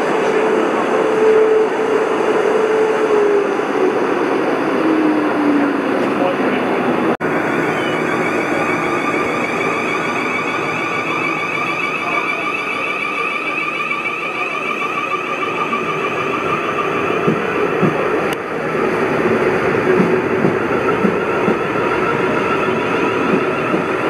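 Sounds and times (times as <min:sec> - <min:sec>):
high warbling whine: 0:00.0 - 0:24.0
train running: 0:00.0 - 0:24.0.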